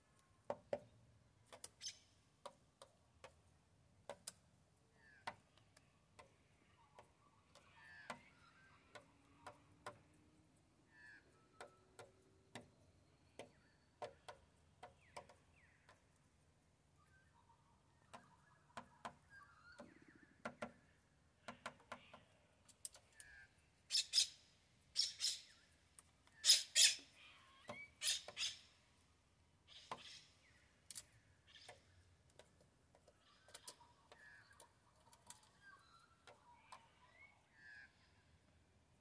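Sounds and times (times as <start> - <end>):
bird chirping softly: 0.1 - 3.4, 4.0 - 39.0.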